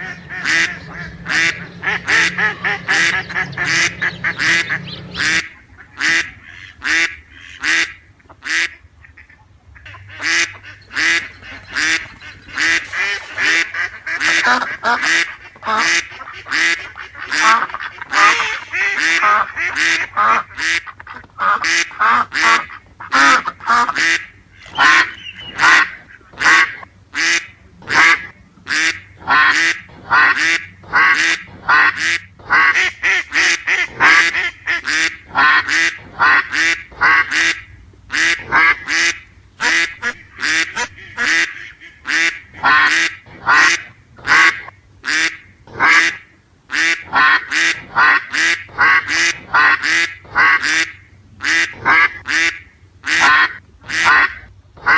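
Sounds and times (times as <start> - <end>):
ducks quacking: 0.0 - 54.9.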